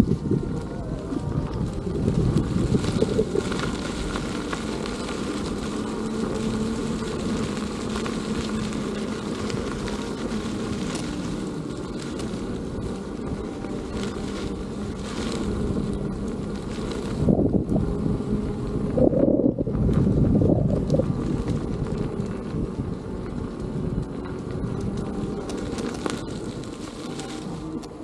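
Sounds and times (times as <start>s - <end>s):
electric motor hum: 0.0s - 28.0s
faint ticks from bumps: 0.0s - 28.0s
tyre rumble: 0.0s - 28.0s
wind rushing over microphone: 0.0s - 28.0s.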